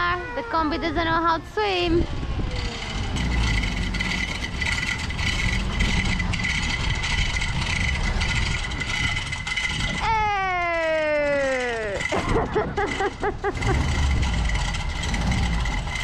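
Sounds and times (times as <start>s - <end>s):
van engine running: 1.9s - 16.0s.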